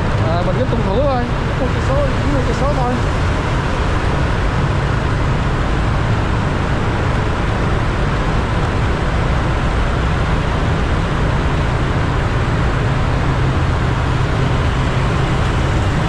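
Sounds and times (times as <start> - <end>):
motorcycle engine in tunnel: 0.0 - 16.0
surrounding traffic: 0.0 - 16.0.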